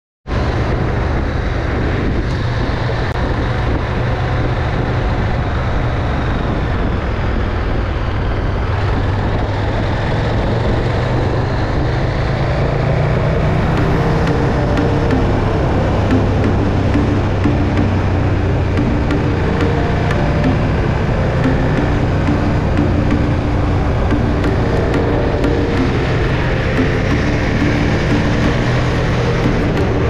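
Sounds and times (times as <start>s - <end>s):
wind noise on microphone: 0.2s - 30.0s
motorcycle engine running: 0.4s - 30.0s.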